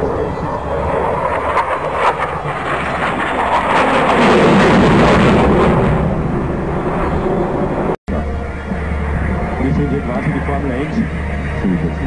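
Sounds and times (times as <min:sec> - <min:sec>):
jet fighter engine roar: 0:00.0 - 0:12.0.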